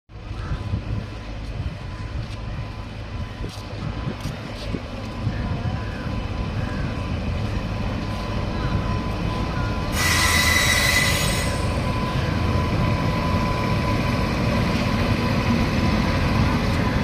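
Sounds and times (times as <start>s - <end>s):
train rumbling on rails: 0.1s - 17.0s.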